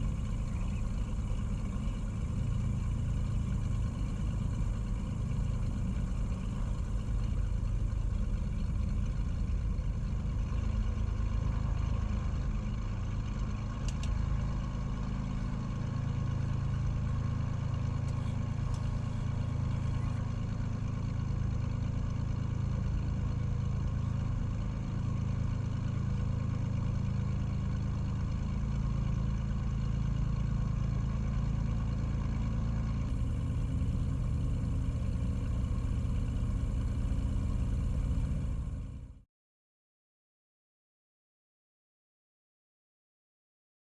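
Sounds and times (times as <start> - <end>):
light aircraft engine and propeller: 0.0 - 39.2.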